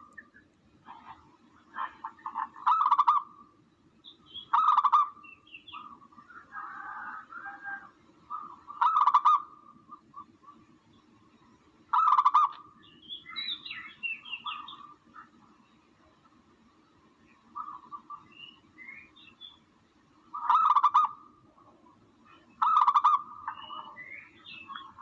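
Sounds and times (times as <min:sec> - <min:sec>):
recorded dove calls: 0:00.0 - 0:10.7, 0:11.9 - 0:15.4, 0:17.2 - 0:19.6, 0:20.2 - 0:25.0
soft bird chirps and warbles: 0:00.0 - 0:25.0.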